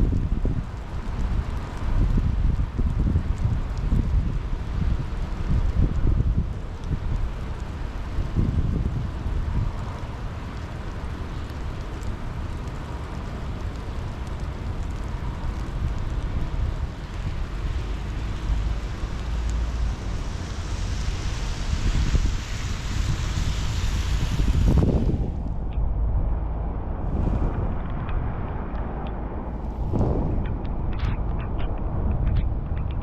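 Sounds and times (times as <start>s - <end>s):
steady rain falling: 0.0s - 25.7s, 29.4s - 33.0s
wind buffeting microphone: 0.0s - 33.0s.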